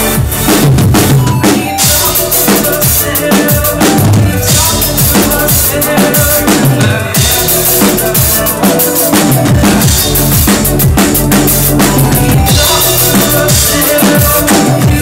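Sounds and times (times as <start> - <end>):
live electronic music: 0.0 - 15.0.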